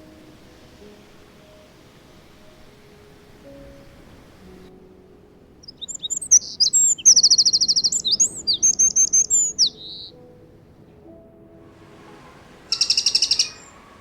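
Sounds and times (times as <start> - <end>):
wren singing: 0.0 - 4.8, 5.4 - 10.5, 11.8 - 14.0.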